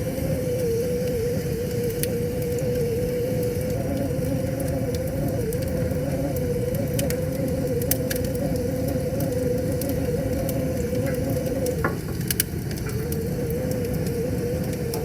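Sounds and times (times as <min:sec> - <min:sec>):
wavering hum: 0:00.0 - 0:15.0
wood fire crackling and popping: 0:00.0 - 0:15.0.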